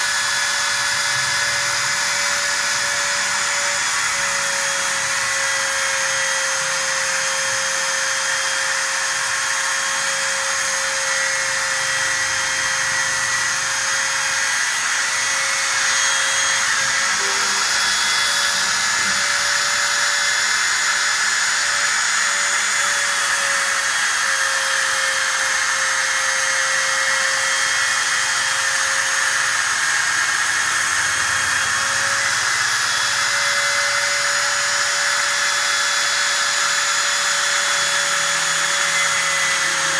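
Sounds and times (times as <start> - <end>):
cutting machine spindle whine: 0.0 - 39.9.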